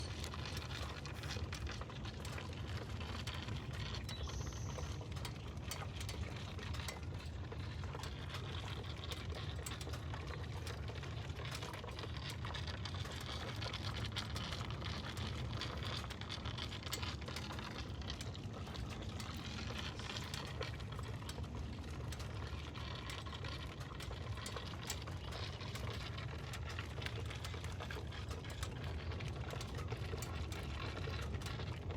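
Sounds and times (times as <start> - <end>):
crackle of small clicks: 0.0 - 31.9.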